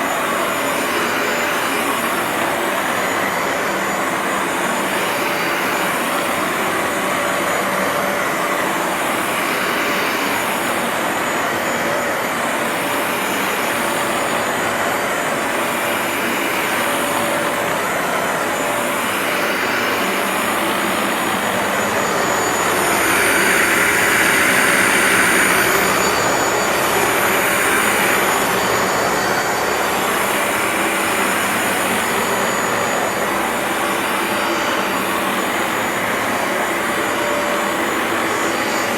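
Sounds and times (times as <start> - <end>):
carpet washer motor drone: 0.0 - 38.9.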